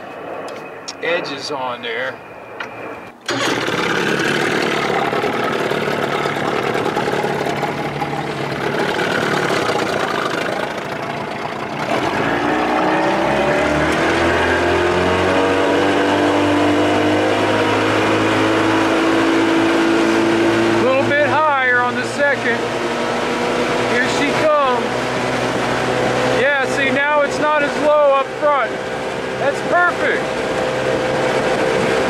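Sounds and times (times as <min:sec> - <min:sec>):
wind: 0:00.0 - 0:32.0
outboard motor running: 0:03.2 - 0:32.0
water noise: 0:03.3 - 0:32.0.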